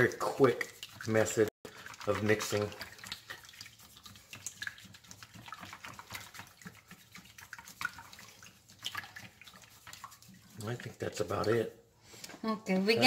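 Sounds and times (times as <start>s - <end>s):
whisk wires clicking on bowl: 0.0s - 11.6s
whisk swishing in liquid: 0.0s - 11.9s.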